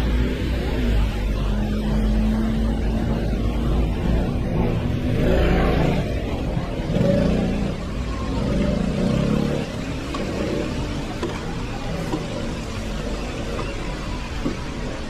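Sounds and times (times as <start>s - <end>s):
motor scooter revving: 0.0s - 15.0s
rain hiss and wet street noise: 0.0s - 15.0s.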